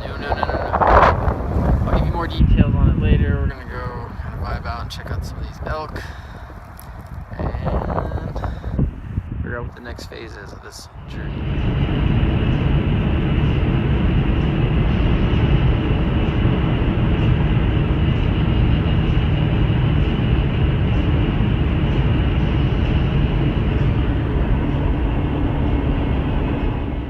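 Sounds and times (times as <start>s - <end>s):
road and tyre noise: 0.0s - 27.0s.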